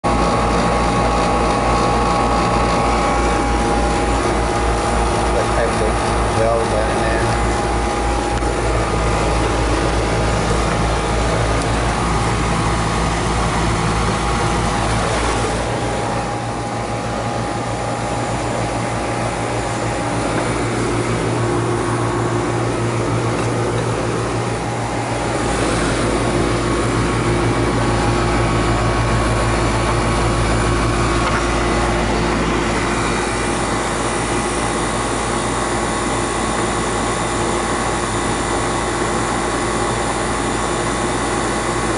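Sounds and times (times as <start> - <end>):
air conditioner unit humming: 0.0 - 41.9.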